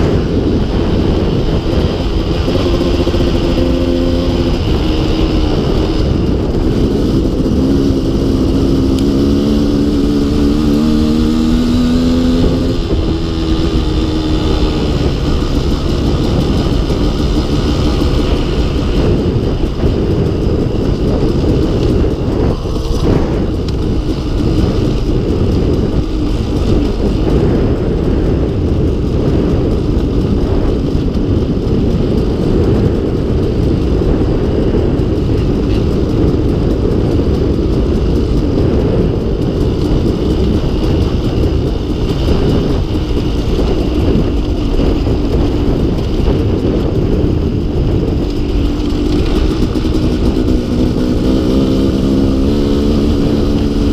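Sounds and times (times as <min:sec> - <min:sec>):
dirt bike engine running: 0:00.0 - 0:53.9.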